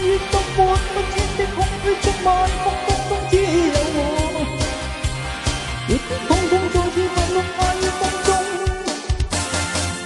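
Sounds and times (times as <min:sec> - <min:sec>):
pop song melody: 0:00.0 - 0:10.0.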